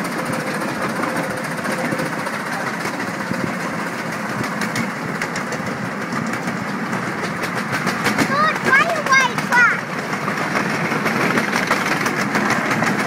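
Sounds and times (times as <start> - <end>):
miniature train running on track: 0.0 - 13.0
wheels clicking on rails: 0.0 - 13.0.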